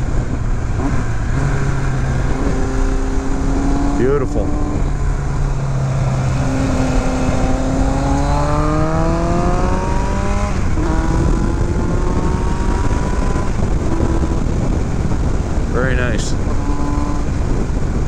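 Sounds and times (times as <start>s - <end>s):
motorcycle engine accelerating: 0.0s - 18.0s
wind and road noise: 0.0s - 18.0s.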